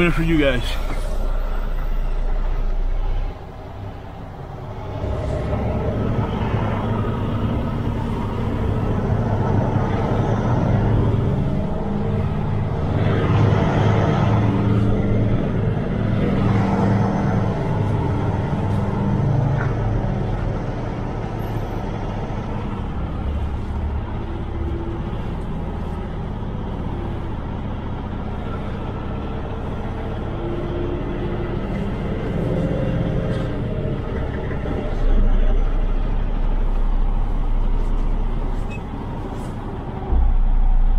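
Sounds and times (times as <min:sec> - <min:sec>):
truck diesel engine running: 0:00.0 - 0:40.9.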